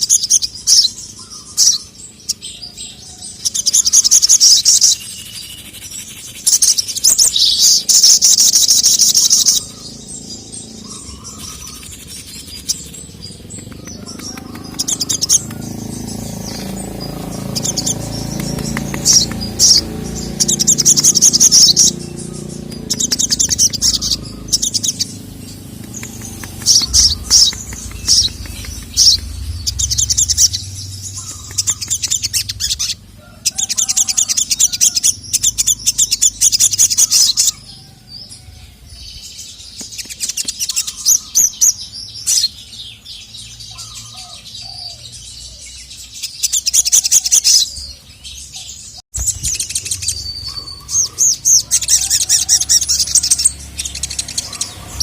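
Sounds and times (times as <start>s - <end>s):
sunbird twittering: 0.0s - 55.0s.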